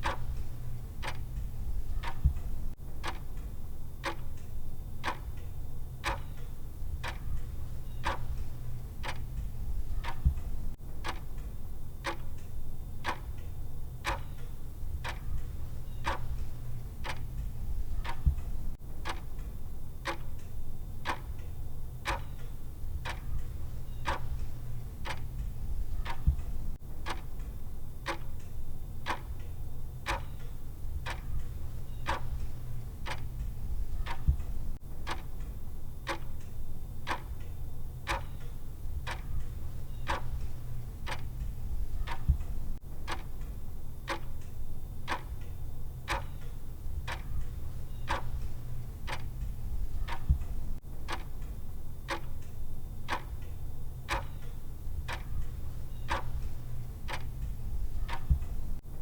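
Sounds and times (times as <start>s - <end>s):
clock timer ticking: 0.0s - 58.8s
low steady hum: 0.0s - 59.0s.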